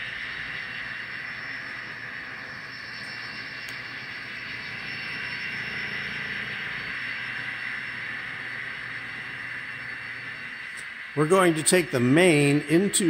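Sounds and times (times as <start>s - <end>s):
model train whirring on track: 0.0s - 13.0s.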